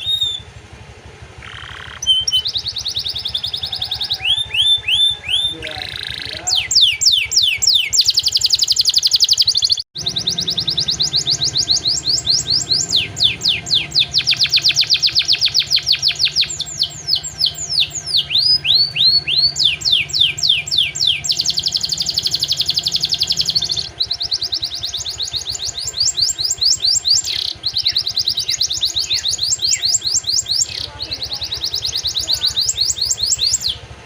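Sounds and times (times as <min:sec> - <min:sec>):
canary singing fast trills: 0:00.0 - 0:34.0
buzzing rattle: 0:05.6 - 0:34.0.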